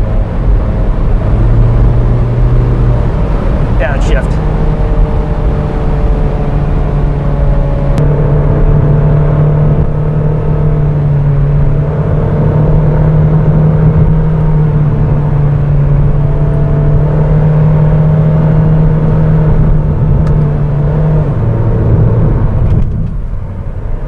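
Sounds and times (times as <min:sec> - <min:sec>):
car engine droning: 0:00.0 - 0:24.0
road noise: 0:00.0 - 0:24.0.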